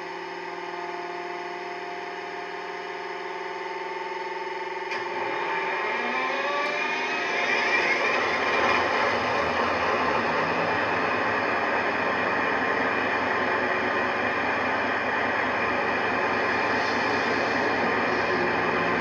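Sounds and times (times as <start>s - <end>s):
diesel engine through small speaker: 0.0s - 19.0s.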